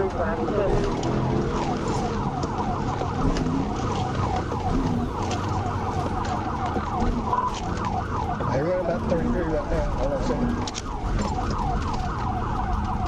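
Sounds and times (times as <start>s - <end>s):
car engine and road rumble: 0.0s - 13.0s
police siren yelping: 0.0s - 13.0s.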